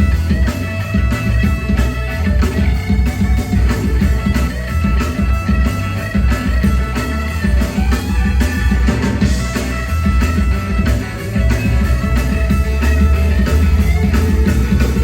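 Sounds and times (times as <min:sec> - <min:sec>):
drum kit beat: 0:00.0 - 0:15.0
heavy bass line: 0:00.0 - 0:15.0.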